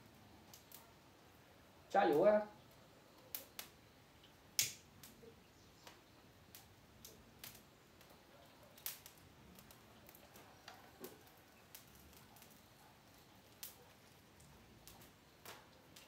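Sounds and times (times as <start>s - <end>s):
dry stalks crackling and popping: 0.0s - 1.0s, 1.9s - 16.0s.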